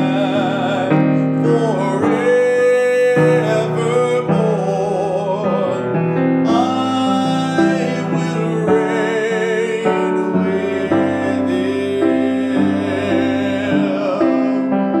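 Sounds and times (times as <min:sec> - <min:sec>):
sustained keyboard chords: 0:00.0 - 0:15.0.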